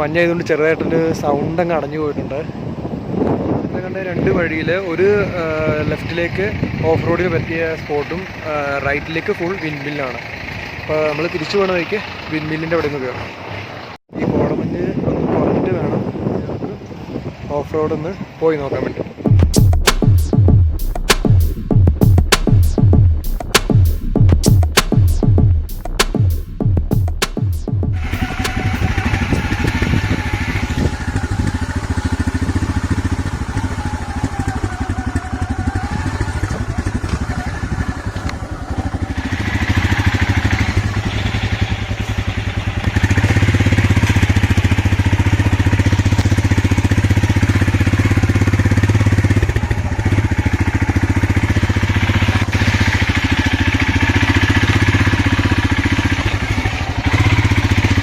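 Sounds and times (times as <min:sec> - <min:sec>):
motorcycle engine running: 0:05.4 - 0:13.9, 0:19.2 - 0:58.0.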